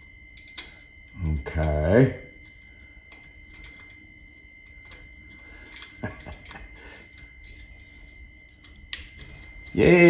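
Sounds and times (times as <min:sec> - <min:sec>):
faint steady high tone: 0:00.0 - 0:10.0.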